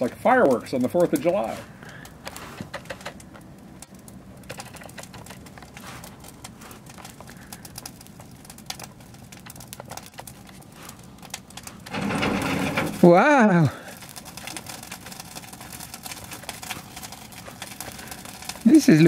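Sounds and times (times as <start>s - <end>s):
charcoal crackling and popping: 0.0s - 19.0s
low steady fire rush: 0.0s - 19.0s.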